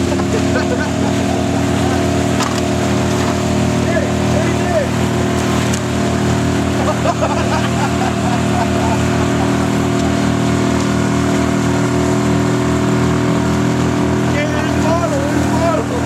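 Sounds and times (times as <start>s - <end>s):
outboard motor droning: 0.0s - 16.0s.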